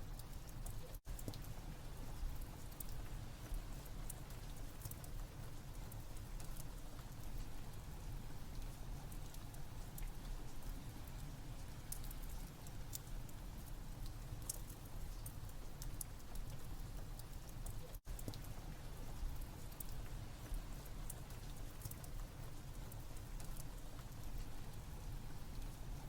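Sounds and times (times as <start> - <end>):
fireplace crackling and popping: 0.0 - 26.0
steady rain with low rumble: 0.0 - 26.0.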